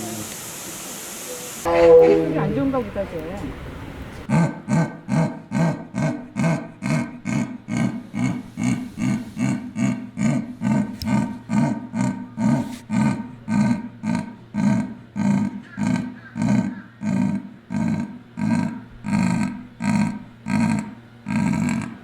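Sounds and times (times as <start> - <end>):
sea lion barking: 1.6 - 22.0.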